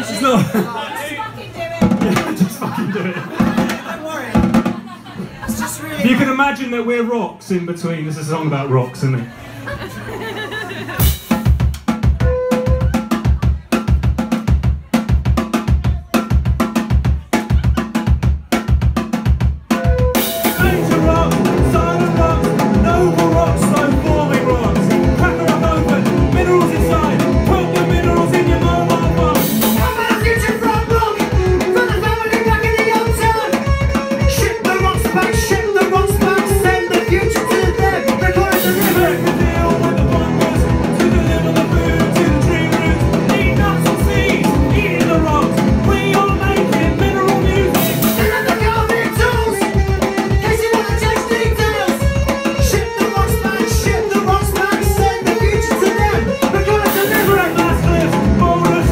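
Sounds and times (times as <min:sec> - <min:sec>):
live punk band playing: 0:00.0 - 0:06.6, 0:09.7 - 0:58.9.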